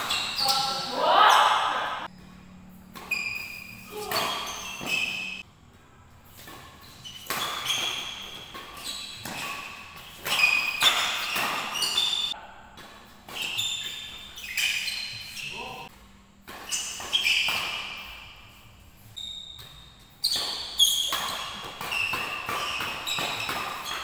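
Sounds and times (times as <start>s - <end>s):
shoes squeaking on floor: 0.0s - 2.2s, 2.8s - 5.5s, 6.3s - 12.4s, 13.1s - 15.9s, 16.5s - 24.0s
rackets hitting shuttlecock: 0.0s - 5.5s, 6.4s - 15.7s, 16.4s - 18.4s, 19.6s - 24.0s.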